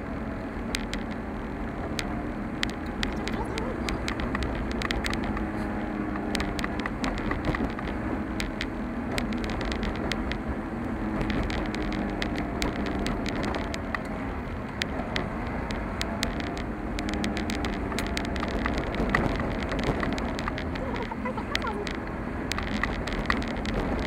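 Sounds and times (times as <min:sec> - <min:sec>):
car engine and tyre rumble: 0:00.0 - 0:24.0
small sharp rattles: 0:02.0 - 0:24.0.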